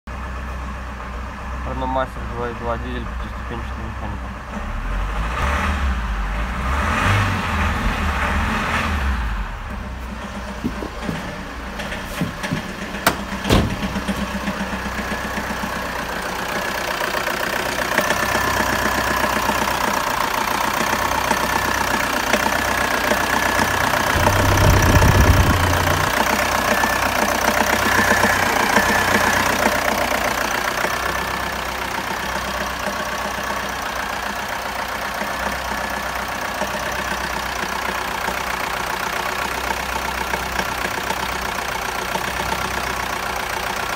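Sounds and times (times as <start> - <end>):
diesel engine idling: 0.1 - 5.1, 7.6 - 43.9.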